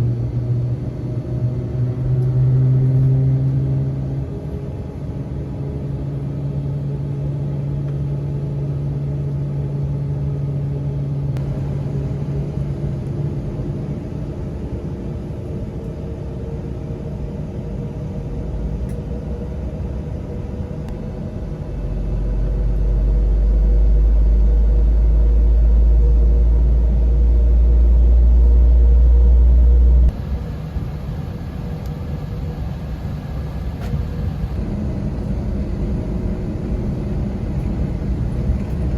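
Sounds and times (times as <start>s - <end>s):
deep low rumble: 0.0s - 38.9s
idling jet engines hum: 0.0s - 38.9s.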